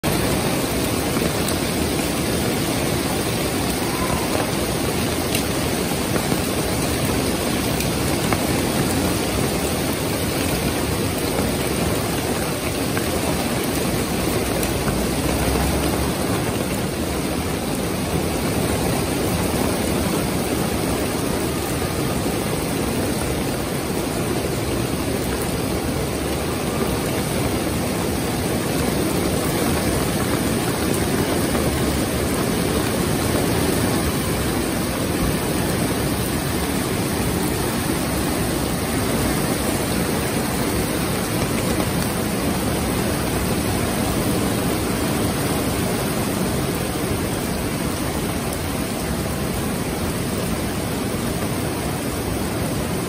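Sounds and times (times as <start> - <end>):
heavy rain on street and cars: 0.0 - 53.0.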